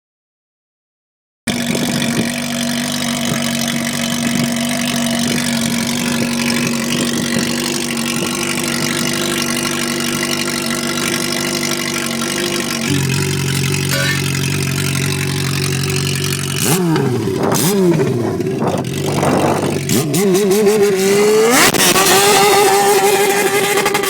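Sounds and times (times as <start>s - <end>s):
motorcycle engine idling: 1.5s - 21.4s.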